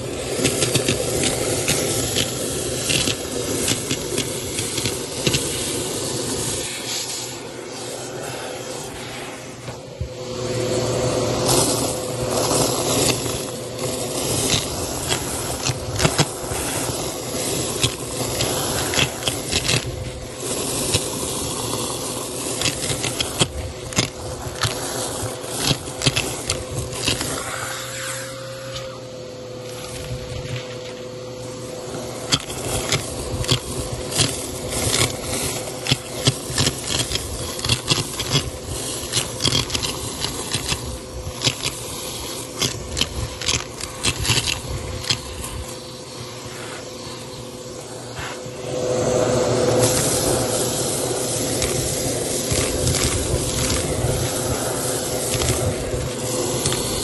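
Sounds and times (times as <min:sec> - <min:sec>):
lentils and coins rattling in hose: 0:00.0 - 0:08.9, 0:11.4 - 0:29.0, 0:29.6 - 0:47.8, 0:49.7 - 0:57.0
vacuum cleaner motor hum: 0:00.0 - 0:57.0.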